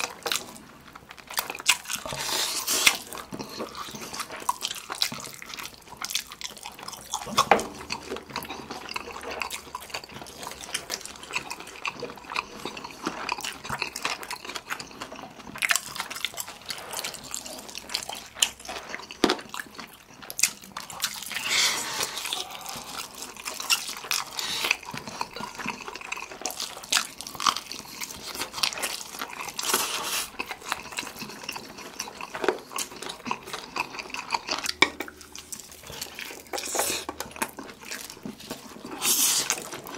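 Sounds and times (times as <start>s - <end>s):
chewing: 0.0s - 39.9s
noodles being slurped: 0.0s - 39.9s.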